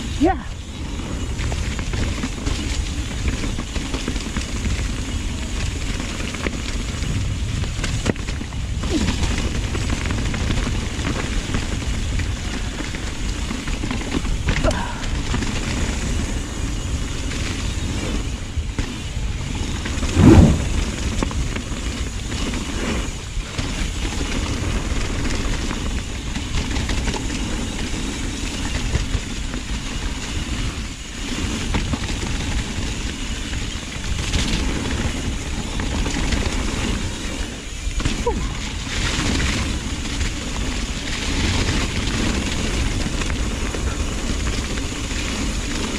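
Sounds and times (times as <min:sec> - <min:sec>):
bike rattling: 0:00.0 - 0:45.9
wind and tyres rumbling: 0:00.0 - 0:45.9.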